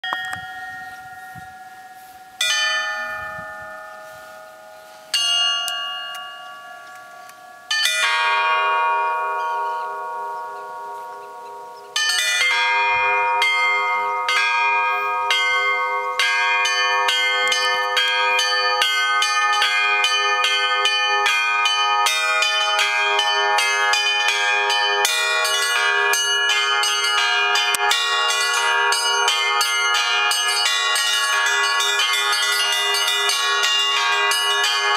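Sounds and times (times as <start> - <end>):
church bell strokes ringing out: 0.0 - 34.9
peal of many bells: 0.0 - 34.9
repeated low bell: 0.0 - 34.9.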